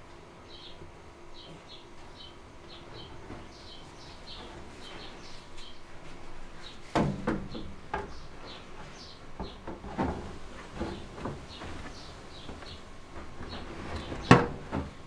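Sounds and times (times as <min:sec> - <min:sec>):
small birds chirping: 0:00.4 - 0:14.5.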